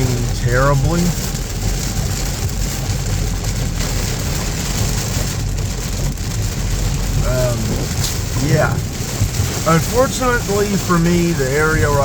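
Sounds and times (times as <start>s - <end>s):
car engine humming: 0.0s - 12.0s
heavy rain on car: 0.0s - 12.0s.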